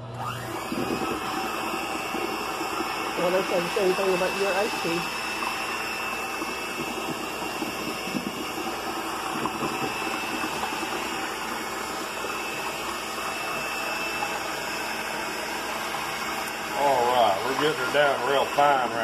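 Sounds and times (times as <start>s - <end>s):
electric hand mixer running: 0.0s - 19.0s
high motor whine: 0.0s - 19.0s.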